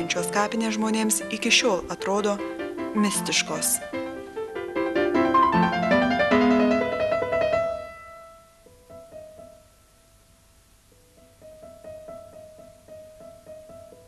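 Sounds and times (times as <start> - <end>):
slow piano music: 0.0 - 10.3, 11.0 - 14.0.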